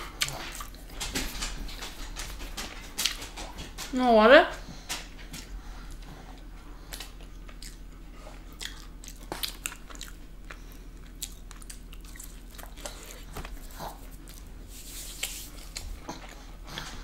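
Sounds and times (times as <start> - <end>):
crunchy chewing: 0.0 - 3.6, 4.8 - 17.0.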